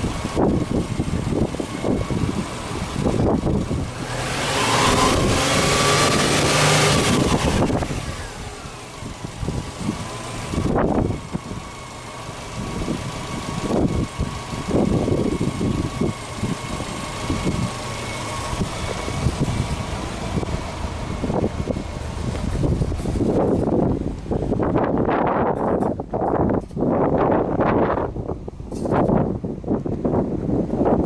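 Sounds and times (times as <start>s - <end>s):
car engine free-revving: 0.0s - 31.0s.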